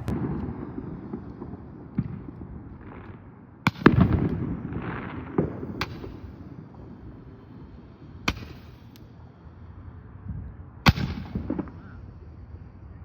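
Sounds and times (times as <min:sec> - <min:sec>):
firework bangs: 0:00.0 - 0:09.0, 0:10.9 - 0:12.6
firework crackling and hissing: 0:00.0 - 0:13.0.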